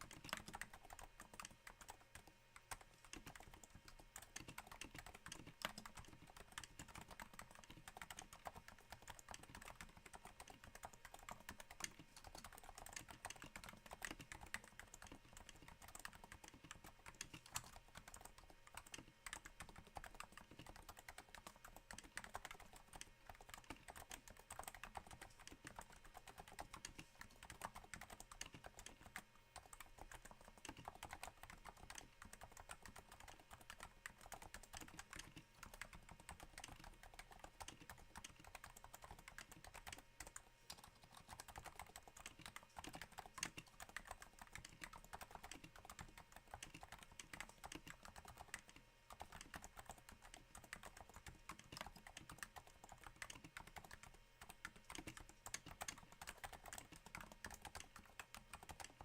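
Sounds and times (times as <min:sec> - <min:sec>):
soft damped keyboard typing: 0:00.0 - 0:59.0.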